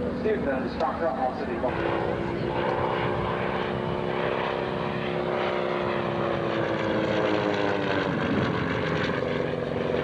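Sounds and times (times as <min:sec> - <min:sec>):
light aircraft engine droning: 0:00.0 - 0:10.0.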